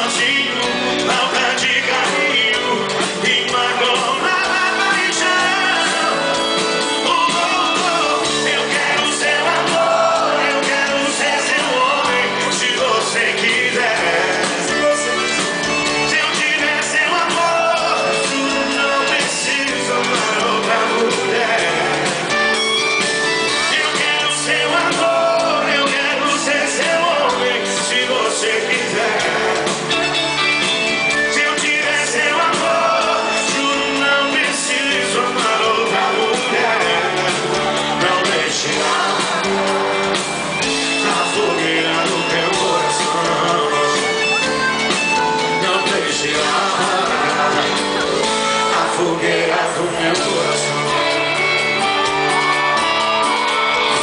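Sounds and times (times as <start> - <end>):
person singing: 0.0 - 22.4, 23.5 - 30.1, 31.2 - 54.0
guitar: 0.0 - 54.0
live band playing: 0.0 - 54.0.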